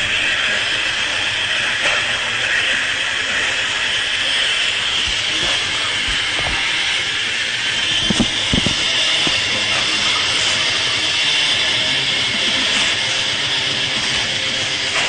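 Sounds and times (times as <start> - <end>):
toy race trucks whining: 0.0 - 15.0.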